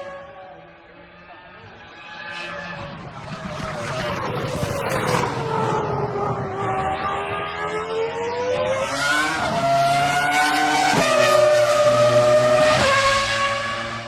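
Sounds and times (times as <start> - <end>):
racing car engine accelerating: 1.6 - 14.0.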